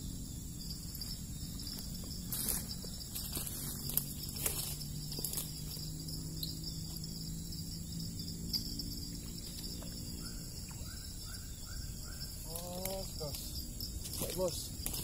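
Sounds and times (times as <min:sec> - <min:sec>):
insects chirping: 0:00.0 - 0:15.0
short insect calls: 0:00.0 - 0:15.0.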